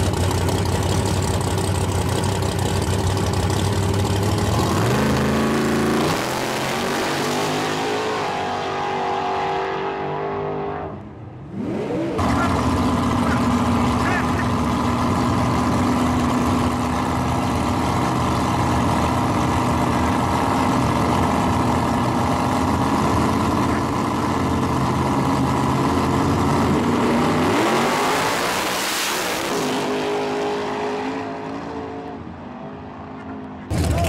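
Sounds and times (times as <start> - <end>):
drag racing engines accelerating: 0.0 - 34.0.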